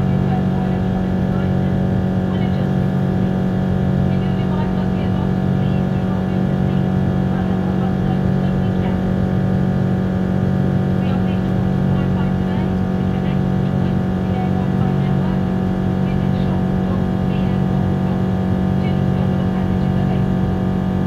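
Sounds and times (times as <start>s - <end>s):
airplane cabin engine drone: 0.0s - 21.0s.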